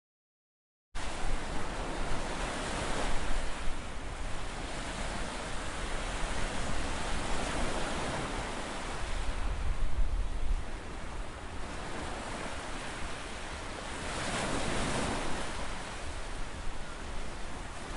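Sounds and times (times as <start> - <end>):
ocean surf washing: 1.0 - 17.9
wind gusting against microphone: 1.0 - 17.9.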